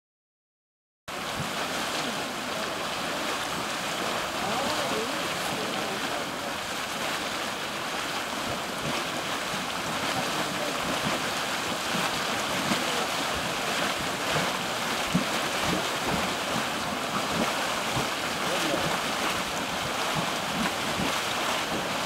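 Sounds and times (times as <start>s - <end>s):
hiss of venting steam and mud: 1.1s - 22.0s.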